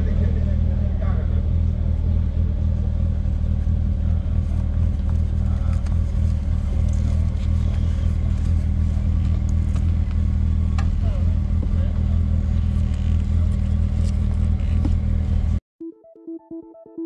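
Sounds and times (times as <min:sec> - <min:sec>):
motorcycle engine idling: 0:00.0 - 0:15.6.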